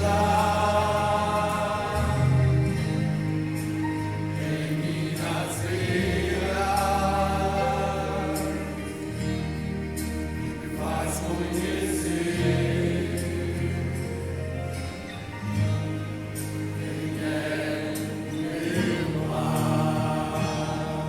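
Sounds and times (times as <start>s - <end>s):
choir singing gospel: 0.0s - 21.0s
steady bass line: 0.0s - 21.0s.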